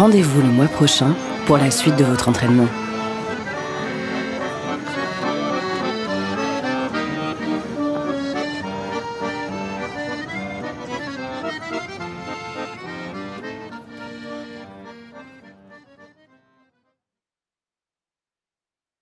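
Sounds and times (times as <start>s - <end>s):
accordion music: 0.0s - 16.8s.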